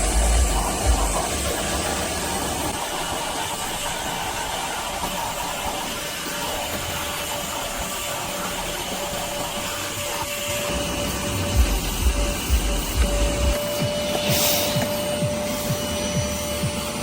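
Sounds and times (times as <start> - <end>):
shop vacuum running: 0.0 - 17.0.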